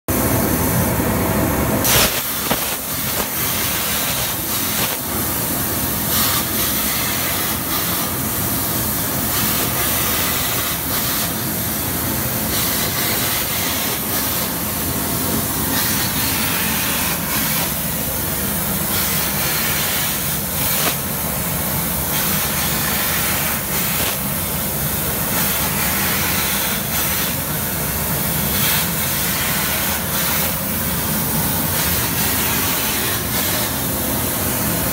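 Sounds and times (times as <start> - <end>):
plasma torch hissing: 1.8 - 34.9.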